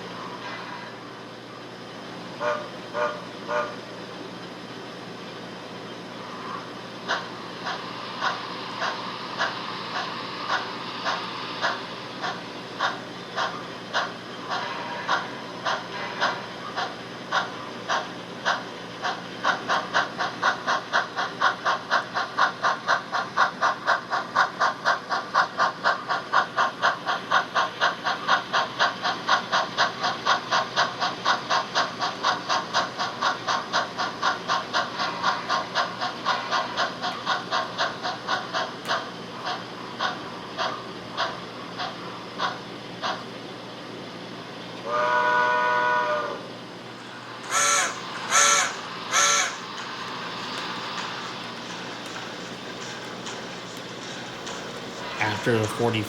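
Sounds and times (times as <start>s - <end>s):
model steam locomotive chuffs: 0.0s - 56.0s.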